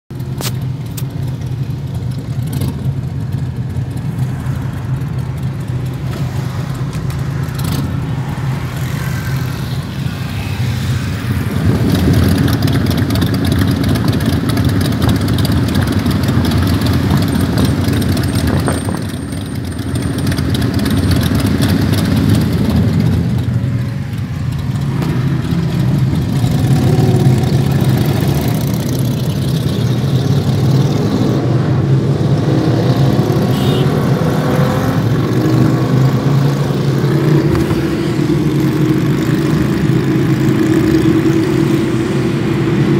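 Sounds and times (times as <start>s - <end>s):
motorcycle engines idling: 0.1s - 30.9s, 35.0s - 42.9s.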